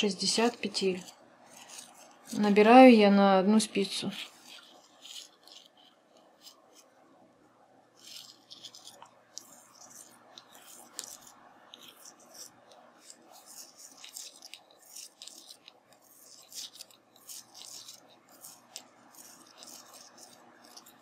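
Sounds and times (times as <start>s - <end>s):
yarn rustling over knitting needle: 0.0s - 7.0s, 7.9s - 21.0s.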